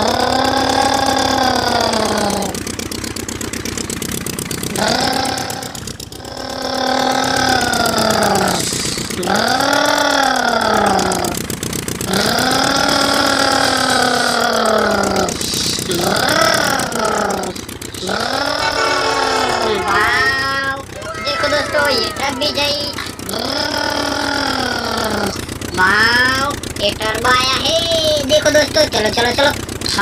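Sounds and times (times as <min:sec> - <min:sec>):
imitated vehicle engine drone: 0:00.0 - 0:30.0.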